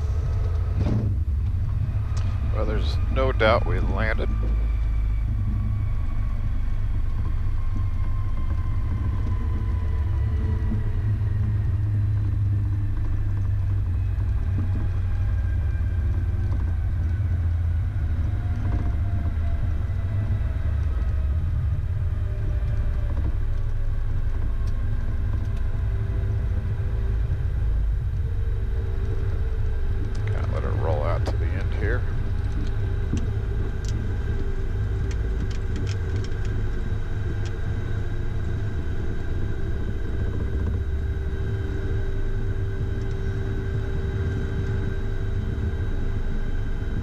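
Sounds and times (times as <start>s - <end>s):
jet engines whining: 0.0s - 47.0s
wheels rumbling on runway: 0.0s - 47.0s.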